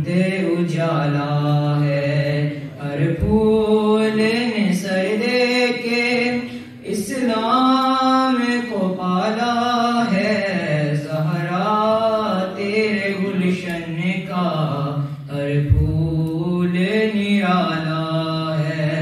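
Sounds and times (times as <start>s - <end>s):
young man chanting: 0.0s - 19.0s.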